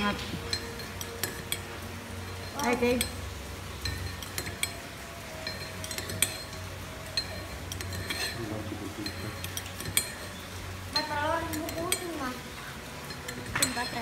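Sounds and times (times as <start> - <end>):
metal spoon clinking against bowl: 0.4 - 12.2, 13.0 - 14.0.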